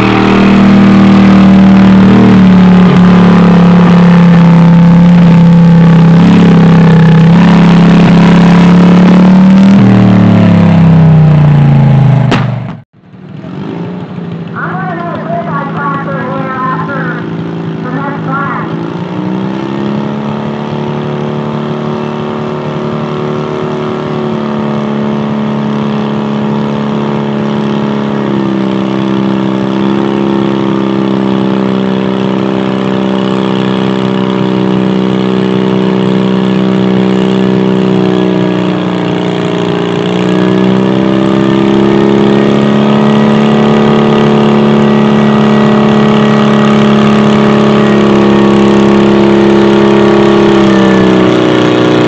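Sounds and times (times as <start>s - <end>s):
tractor engine running under load: 0.0s - 52.0s.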